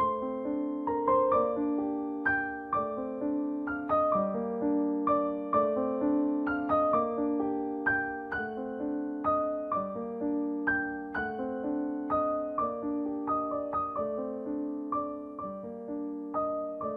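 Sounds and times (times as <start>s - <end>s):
calm piano music: 0.0s - 16.9s.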